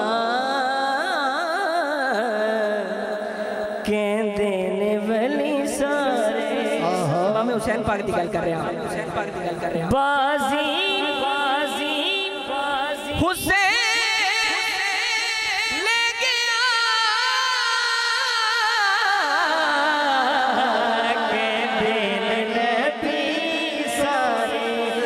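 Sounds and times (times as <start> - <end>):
man singing over pa: 0.0 - 25.0.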